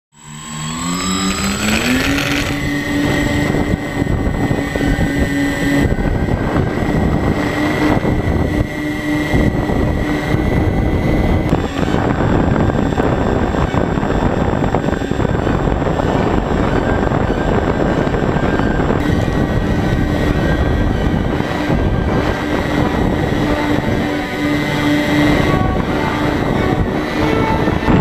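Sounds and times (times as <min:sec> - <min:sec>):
model airplane motor whine: 0:00.1 - 0:28.0
wind rushing on microphone: 0:00.5 - 0:28.0.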